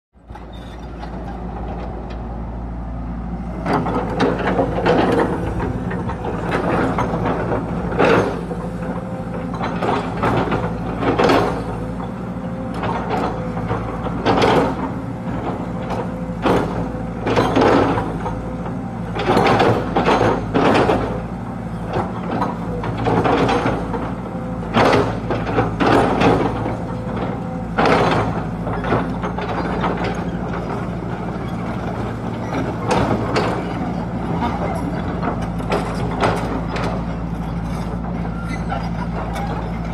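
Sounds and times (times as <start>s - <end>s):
mechanical clanking and creaking: 0.2s - 2.4s, 3.4s - 39.9s
excavator diesel engine running: 0.2s - 39.9s.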